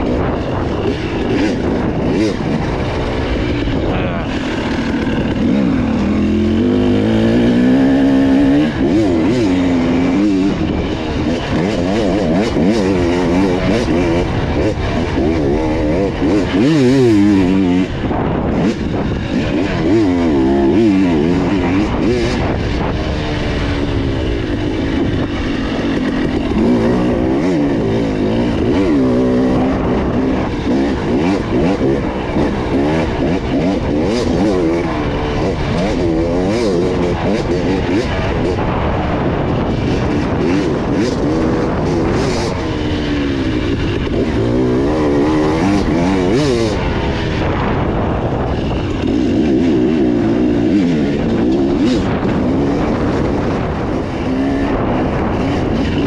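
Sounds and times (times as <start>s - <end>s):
off-road motorcycle engine revving: 0.0s - 56.0s.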